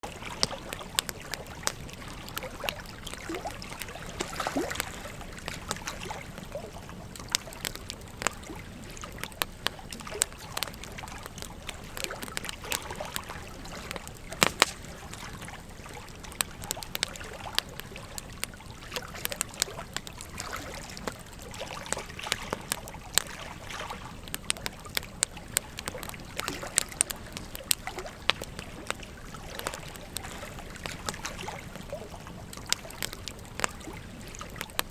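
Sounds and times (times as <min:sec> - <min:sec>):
campfire crackling and popping: 0:00.0 - 0:34.9
gentle stream trickling: 0:00.0 - 0:34.9.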